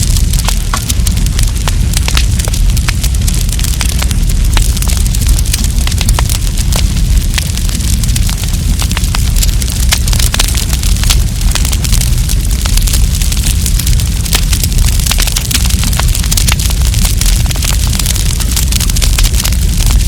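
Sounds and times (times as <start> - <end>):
campfire crackling and popping: 0.0 - 20.0
fire rumble and hiss: 0.0 - 20.0.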